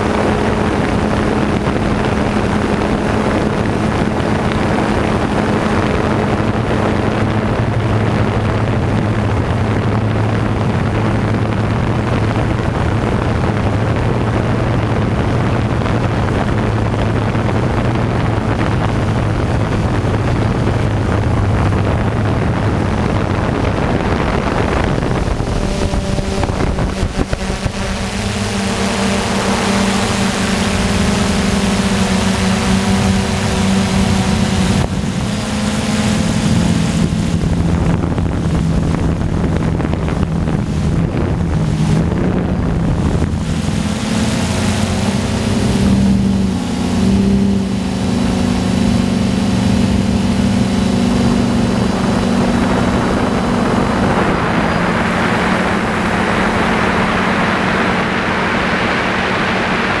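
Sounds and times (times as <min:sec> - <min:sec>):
drone motors buzzing: 0:00.0 - 1:00.0
rushing noise: 0:00.0 - 1:00.0.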